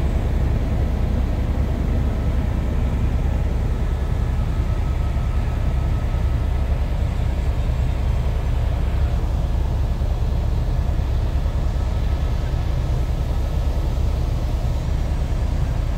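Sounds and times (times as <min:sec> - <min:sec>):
faint steady whine: 0:00.0 - 0:15.9
helicopter rotor and engine rumble: 0:00.0 - 0:15.9.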